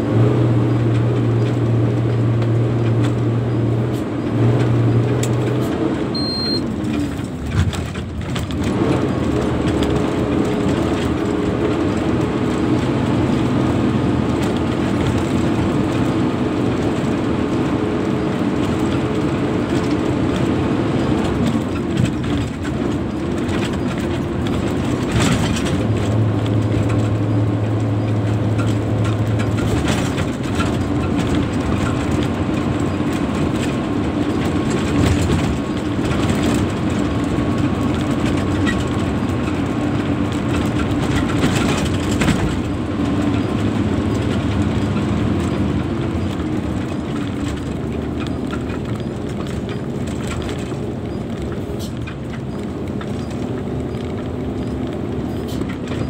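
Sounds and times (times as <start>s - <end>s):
diesel truck engine running: 0.0s - 56.0s
cab rattle: 6.7s - 56.0s.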